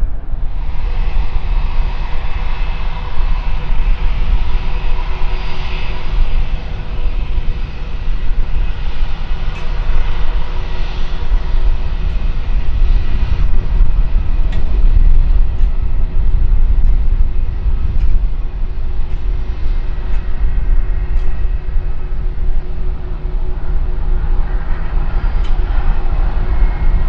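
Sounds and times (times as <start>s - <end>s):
jet engines deep rumble: 0.0s - 27.0s.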